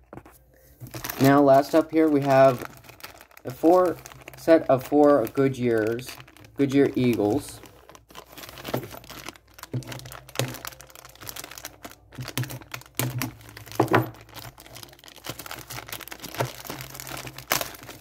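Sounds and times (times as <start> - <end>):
plastic bag crinkling: 0.2 - 18.0.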